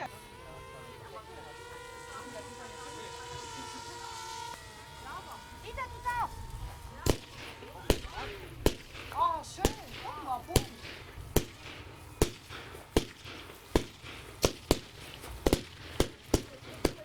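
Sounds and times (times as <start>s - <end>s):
fireworks banging: 1.0s - 17.0s.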